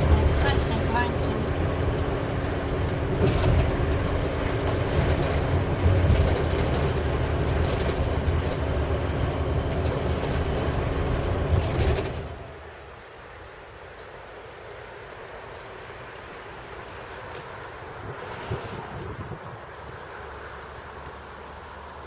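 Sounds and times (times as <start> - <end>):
vehicle interior road noise: 0.0 - 22.0.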